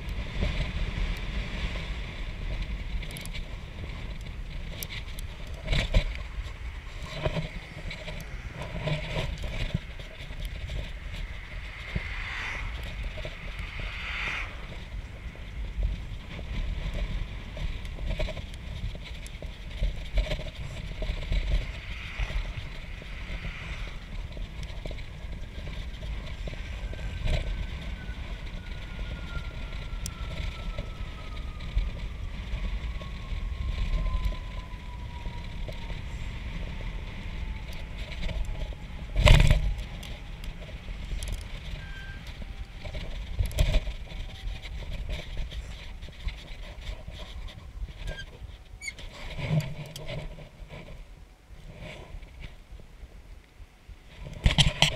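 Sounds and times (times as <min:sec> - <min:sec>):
bicycle ride rumble: 0:00.0 - 0:54.9
wind buffeting microphone: 0:00.0 - 0:54.9.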